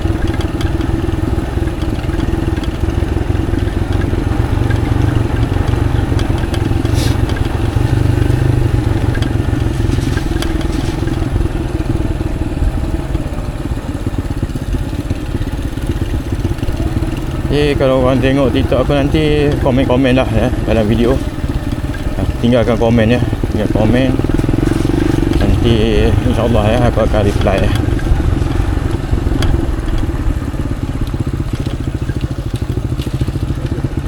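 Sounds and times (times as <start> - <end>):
motorcycle engine running: 0.0 - 34.0
road noise: 0.0 - 34.0.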